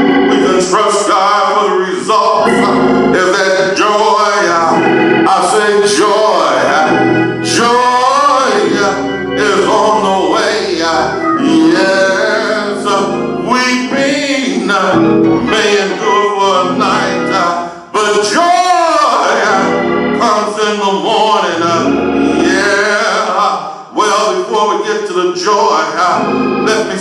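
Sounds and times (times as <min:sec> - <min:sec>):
instrumental accompaniment: 0:00.0 - 0:23.5, 0:26.0 - 0:27.0
man singing gospel: 0:00.0 - 0:27.0.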